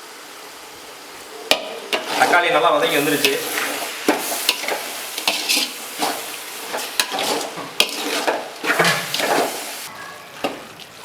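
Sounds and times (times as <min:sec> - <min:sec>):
masala sizzling in pan: 0:00.0 - 0:11.0
ladle scraping pan: 0:01.5 - 0:10.6.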